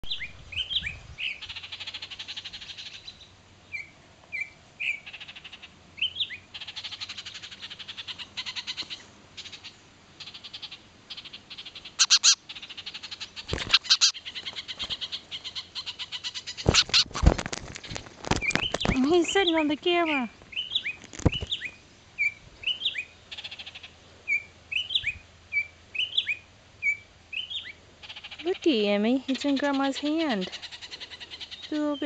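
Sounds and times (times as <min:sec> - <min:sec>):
birds scolding chattering rattles: 0:00.1 - 0:03.3, 0:04.8 - 0:24.1, 0:26.0 - 0:32.0.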